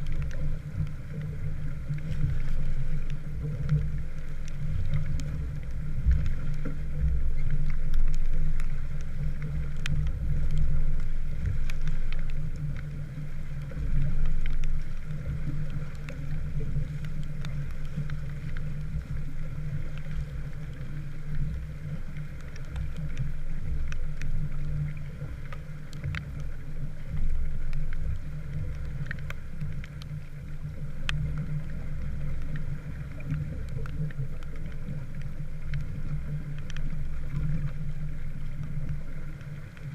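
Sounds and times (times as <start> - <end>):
faint ticks: 0.0 - 39.9
wind and water along hull: 0.0 - 39.9.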